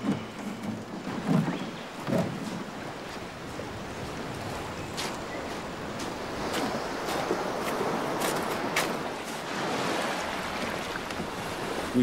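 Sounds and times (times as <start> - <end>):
wind: 0.0 - 12.0
surf washing on beach: 0.9 - 12.0.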